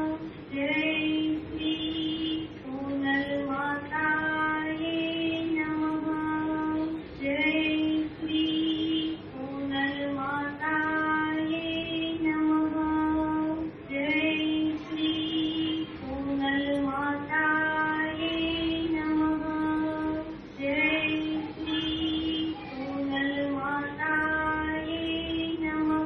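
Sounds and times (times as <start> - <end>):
woman singing a devotional hymn: 0.0 - 26.0.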